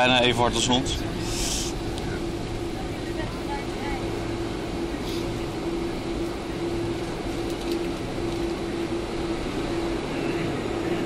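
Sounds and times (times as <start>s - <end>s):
aircraft engines droning: 0.0s - 11.0s
wheels rumbling on runway: 0.0s - 11.0s.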